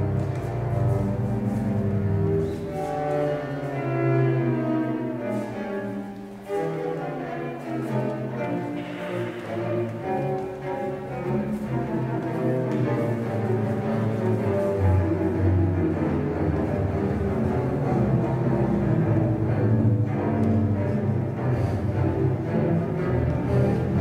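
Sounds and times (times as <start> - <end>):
cello bowed notes: 0.0 - 24.0.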